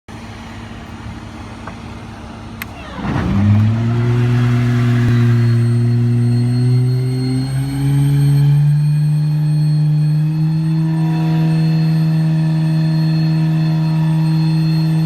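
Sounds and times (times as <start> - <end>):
truck engine and vacuum pump drone: 0.1 - 15.0.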